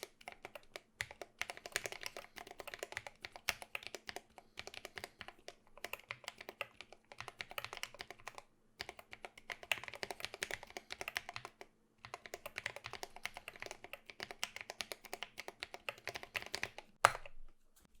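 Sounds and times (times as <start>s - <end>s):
mechanical keyboard typing: 0.0s - 17.3s.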